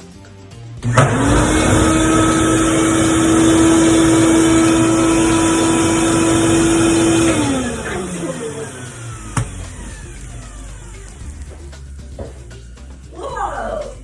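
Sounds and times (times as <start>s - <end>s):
shop vacuum motor whining: 0.8s - 14.0s.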